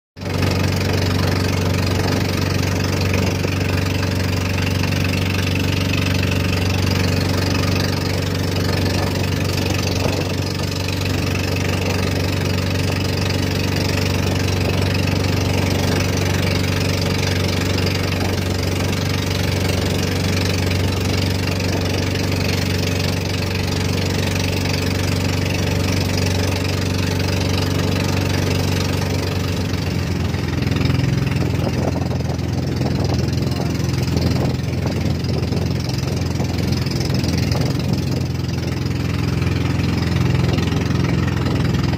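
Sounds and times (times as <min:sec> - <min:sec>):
boat engine droning: 0:00.2 - 0:41.9.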